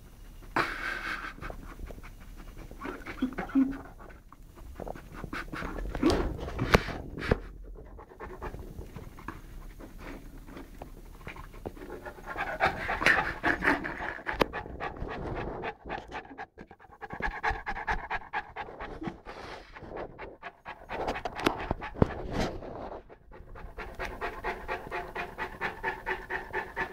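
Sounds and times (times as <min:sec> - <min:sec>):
puppy panting rapidly: 0:00.0 - 0:26.9.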